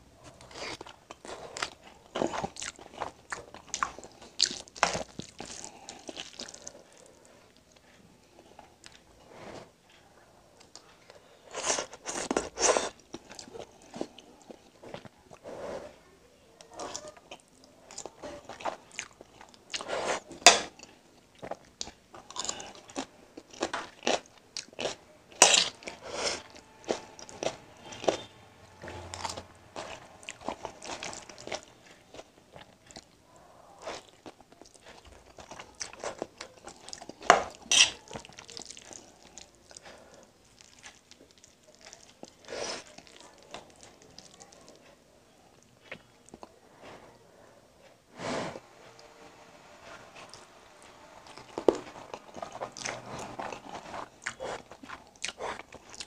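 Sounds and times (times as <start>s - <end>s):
close chewing and lip smacks: 0.3s - 9.1s, 10.6s - 15.4s, 16.6s - 33.2s, 33.8s - 46.6s, 51.2s - 56.0s.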